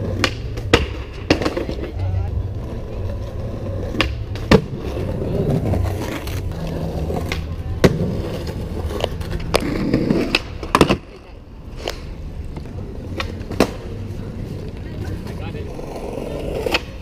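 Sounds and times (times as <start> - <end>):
skateboard clacking: 0.0 - 17.0
skateboard wheels rolling on stone: 0.0 - 17.0.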